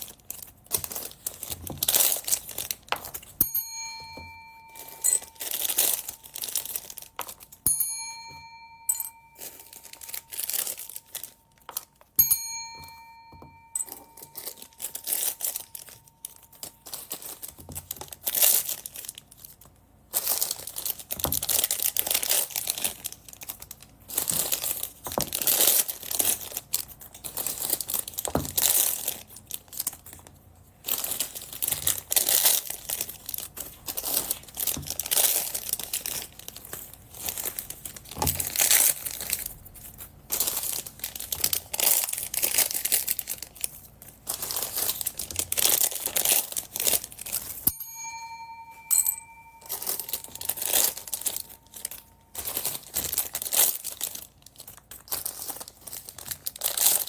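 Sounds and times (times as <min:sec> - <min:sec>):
plastic bags crinkling: 0:00.0 - 0:07.6, 0:08.7 - 0:12.2, 0:12.9 - 0:57.0.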